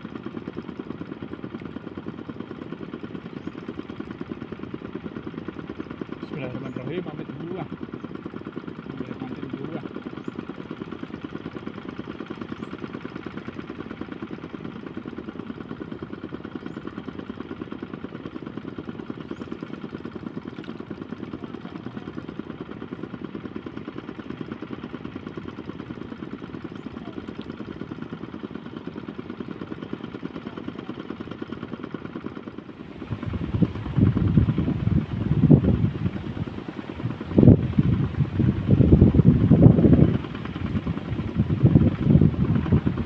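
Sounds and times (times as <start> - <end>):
small motorcycle engine running: 0.0 - 43.0.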